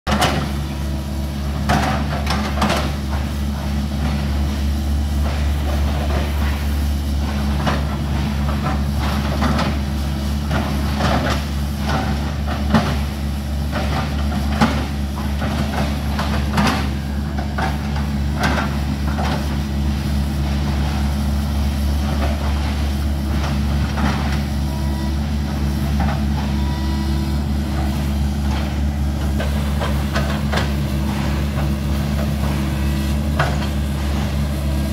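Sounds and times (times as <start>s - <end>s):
excavator diesel engine droning: 0.1s - 34.9s.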